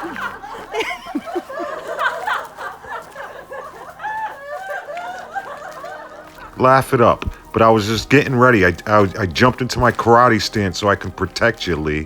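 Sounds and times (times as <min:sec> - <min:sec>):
person laughing and giggling: 0:00.0 - 0:11.1.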